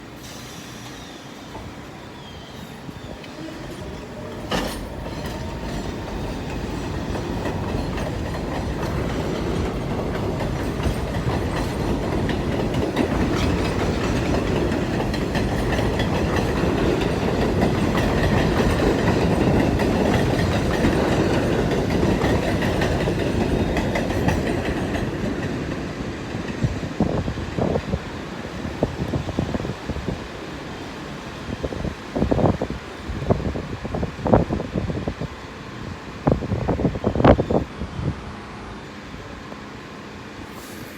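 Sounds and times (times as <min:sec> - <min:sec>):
subway train wheels clattering: 0:00.0 - 0:40.9.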